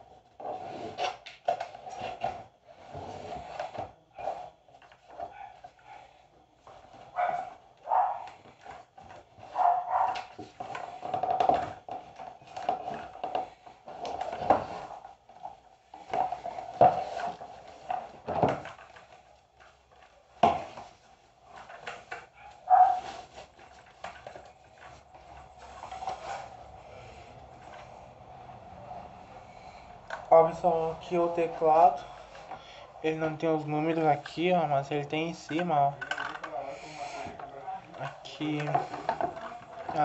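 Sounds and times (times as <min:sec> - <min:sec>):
plastic wrapping rustling: 0:04.6 - 0:40.0.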